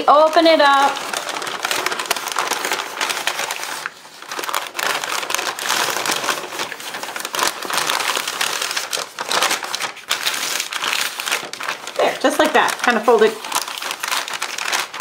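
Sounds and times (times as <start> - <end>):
paper bag crinkling: 0.0 - 15.0.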